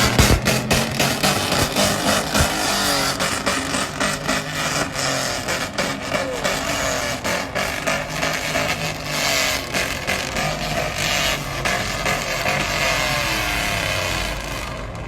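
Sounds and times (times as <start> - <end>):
pickup truck engines passing: 0.0 - 15.0.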